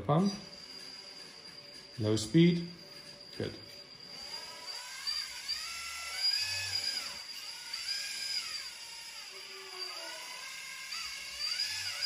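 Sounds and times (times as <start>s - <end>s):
hydraulic pump whining: 0.0s - 12.0s.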